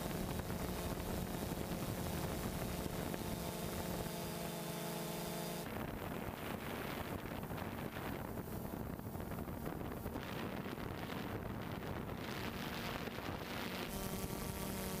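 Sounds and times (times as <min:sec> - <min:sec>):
wind buffeting microphone: 0:00.0 - 0:04.0, 0:05.6 - 0:15.0
steady multi-pitched hum: 0:00.0 - 0:15.0.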